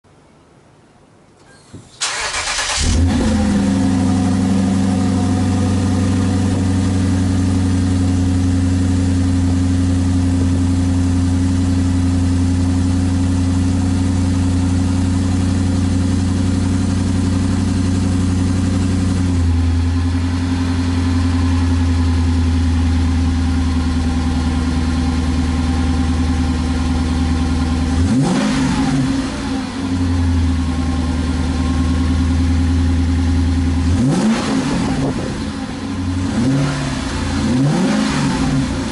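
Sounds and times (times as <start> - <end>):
car engine cranking and idling: 1.3 - 38.9.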